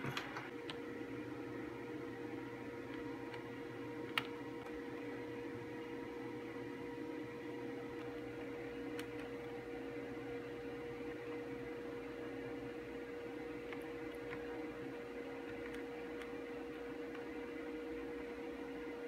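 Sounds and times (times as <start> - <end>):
electrical hum with steady tone: 0.0 - 19.0.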